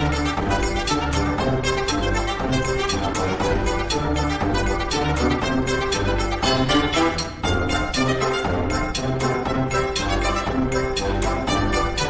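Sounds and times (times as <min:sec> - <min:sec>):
brass and strings: 0:00.0 - 0:12.0
percussive beat: 0:00.0 - 0:12.0.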